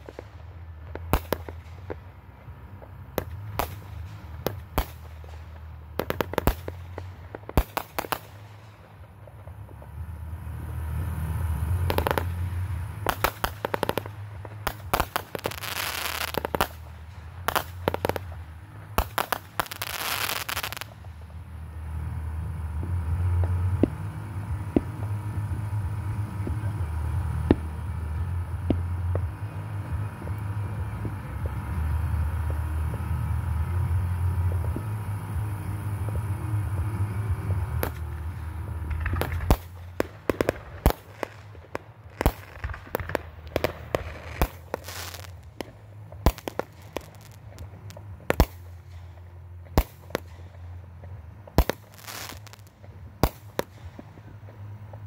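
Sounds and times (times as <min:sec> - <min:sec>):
fireworks bursting: 0:00.0 - 0:55.0
fireworks crackling: 0:00.0 - 0:55.0.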